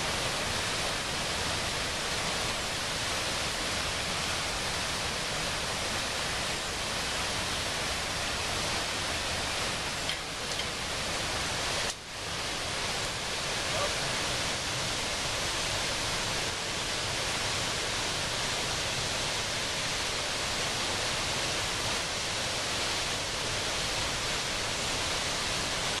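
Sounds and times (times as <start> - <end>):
floodwater rushing downhill: 0.0 - 26.0.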